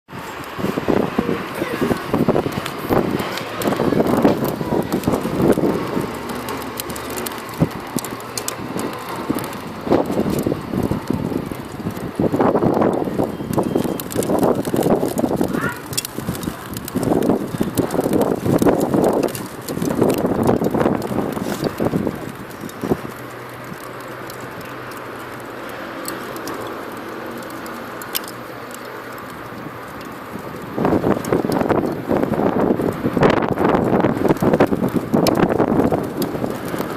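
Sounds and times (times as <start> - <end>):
wood fire crackling and popping: 0.1 - 36.9.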